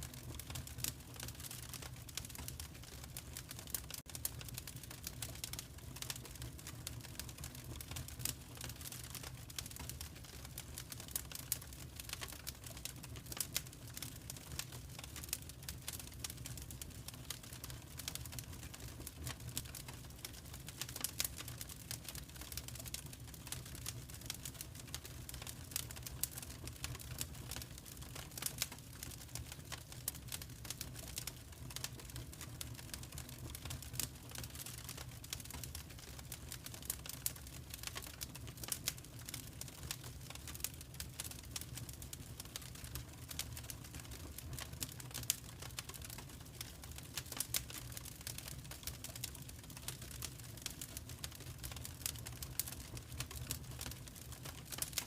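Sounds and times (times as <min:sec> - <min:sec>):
fire crackling and popping: 0:00.0 - 0:55.0
low fire rumble: 0:00.1 - 0:55.0.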